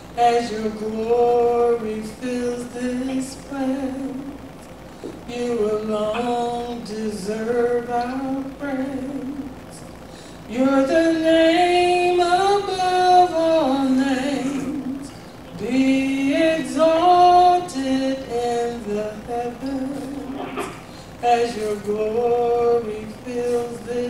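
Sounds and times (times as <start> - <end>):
person singing unaccompanied: 0.0 - 4.5, 5.3 - 9.8, 10.5 - 24.0.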